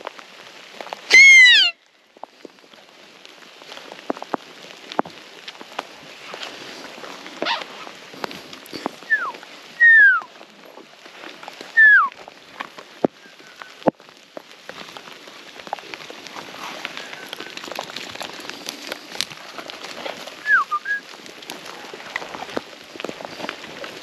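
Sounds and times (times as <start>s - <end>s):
soft rustling hiss: 1.8s - 24.0s.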